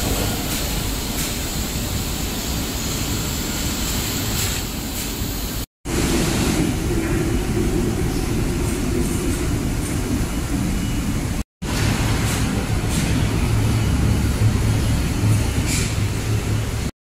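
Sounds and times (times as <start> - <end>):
factory machinery rumble with hiss: 0.0 - 16.9.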